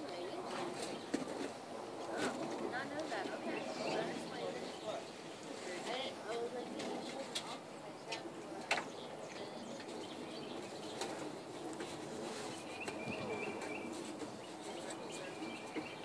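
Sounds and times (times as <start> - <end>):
songbird chirping: 3.0 - 16.0.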